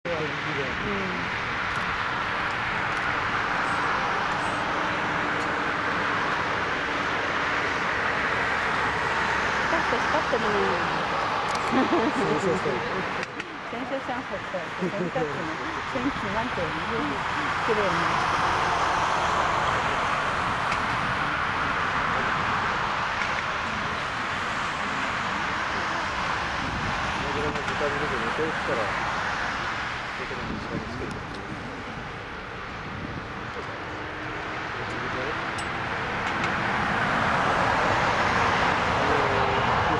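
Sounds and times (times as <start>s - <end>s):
jet engines taxiing: 0.1s - 39.9s.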